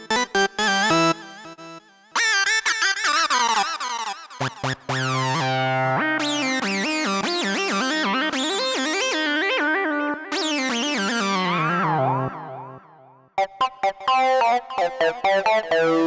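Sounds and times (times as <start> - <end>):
synthesizer lead notes: 0.7 - 16.0.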